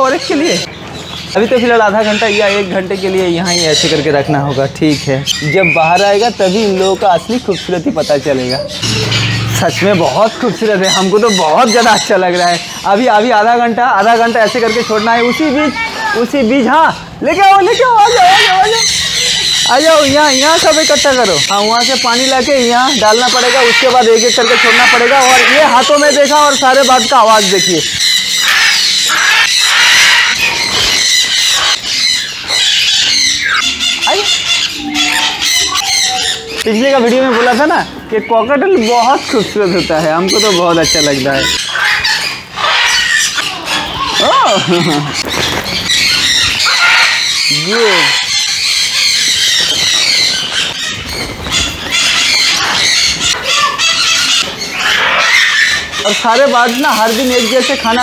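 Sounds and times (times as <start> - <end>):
parrots screeching: 0.0 - 58.0.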